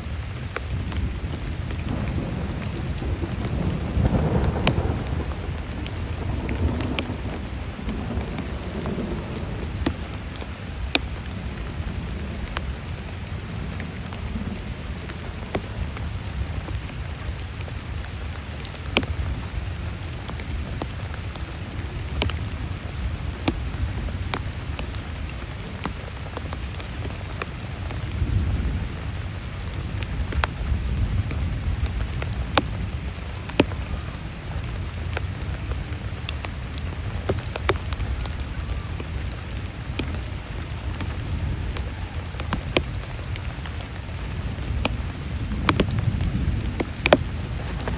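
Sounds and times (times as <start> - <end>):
heavy rain falling: 0.0 - 47.9
sharp raindrop hits: 0.0 - 47.9.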